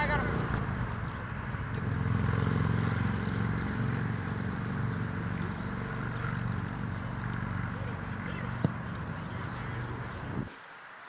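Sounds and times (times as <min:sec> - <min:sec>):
passing vehicle engine rumble: 0:00.0 - 0:10.5.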